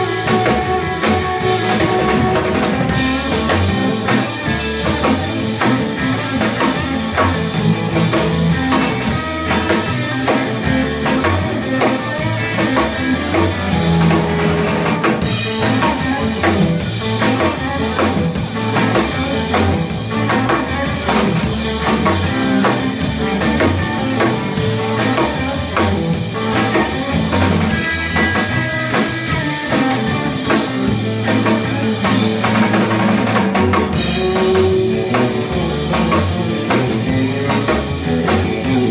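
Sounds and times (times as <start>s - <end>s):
drum kit beat: 0.0s - 38.9s
electric guitars playing: 0.0s - 38.9s.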